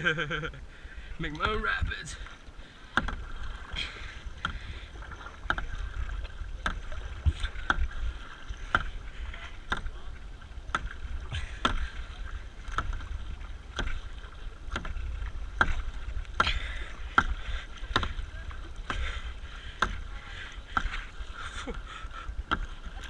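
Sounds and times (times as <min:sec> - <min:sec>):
kayak paddle splashes: 0:00.0 - 0:23.0
water swishing along hull: 0:00.0 - 0:23.0.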